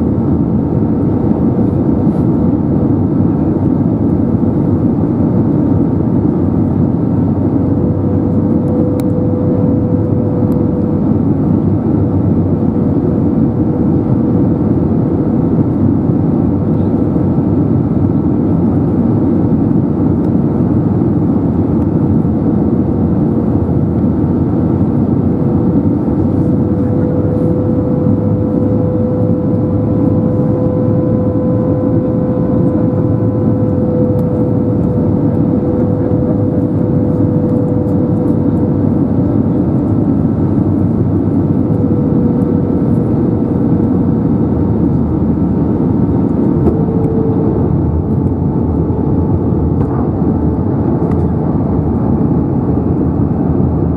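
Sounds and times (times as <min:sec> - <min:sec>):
airplane cabin roar: 0:00.0 - 0:53.9
faint humming tone: 0:00.0 - 0:53.9.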